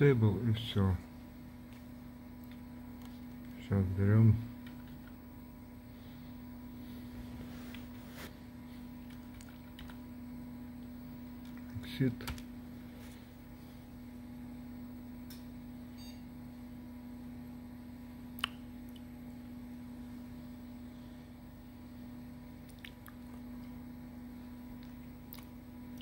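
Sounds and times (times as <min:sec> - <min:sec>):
desktop computer hum: 0:00.0 - 0:26.0.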